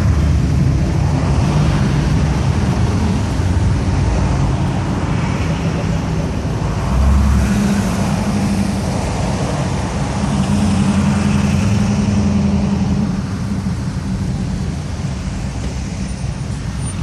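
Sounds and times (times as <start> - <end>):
car engines rumbling past: 0.0 - 17.0
traffic noise: 0.0 - 17.0.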